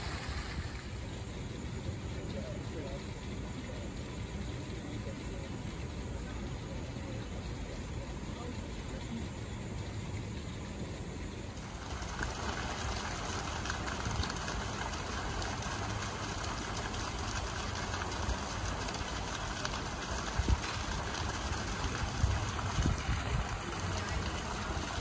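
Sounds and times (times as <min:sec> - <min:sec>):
fountain jets splashing into pool: 0:00.0 - 0:25.0.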